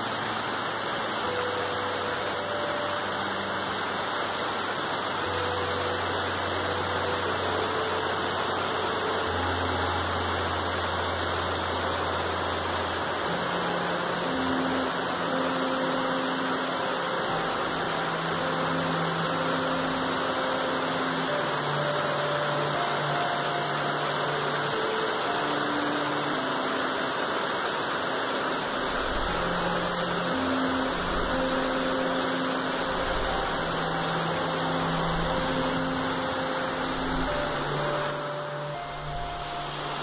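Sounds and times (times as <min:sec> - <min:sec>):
heavy rain on foliage: 0:00.0 - 0:40.0.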